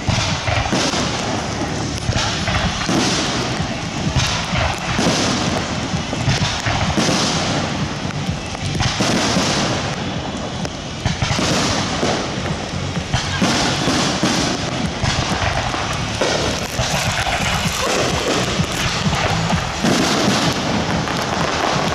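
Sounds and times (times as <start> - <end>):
firework crackling: 0.0 - 21.9
firework shells bursting: 0.0 - 21.9
music: 0.0 - 21.9.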